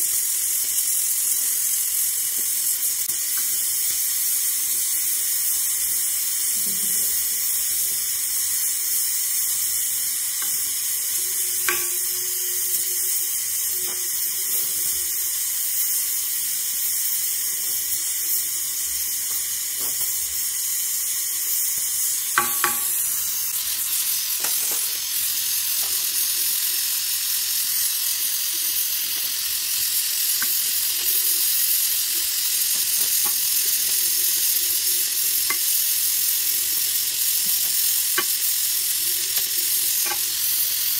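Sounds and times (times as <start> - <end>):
welding torch flame hissing: 0.0 - 40.9.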